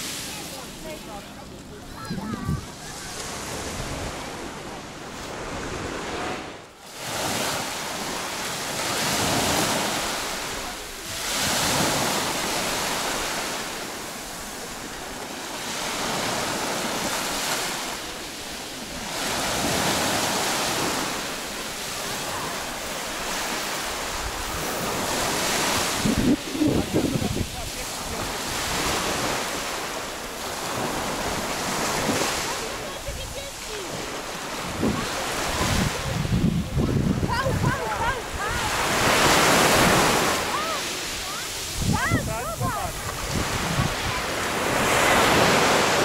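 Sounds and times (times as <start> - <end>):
small waves on pebble shore: 5.2 - 36.3, 37.3 - 46.0.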